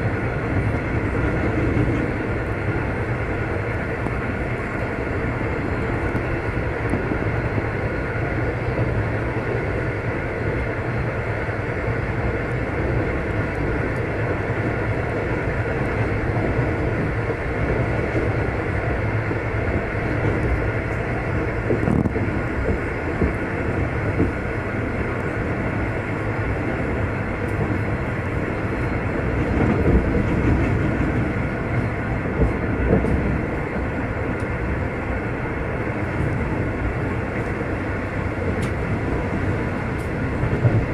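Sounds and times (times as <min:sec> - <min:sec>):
train carriage rumbling on track: 0:00.0 - 0:40.9.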